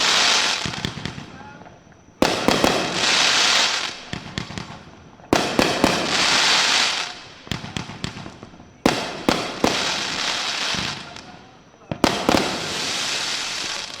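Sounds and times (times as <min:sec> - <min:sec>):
crackling hiss of fireworks: 0:00.0 - 0:14.0
fireworks banging: 0:00.0 - 0:14.0.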